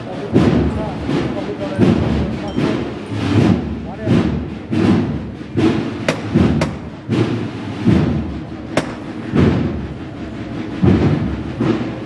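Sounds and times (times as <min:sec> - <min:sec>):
deep procession drum beat: 0:00.0 - 0:12.0.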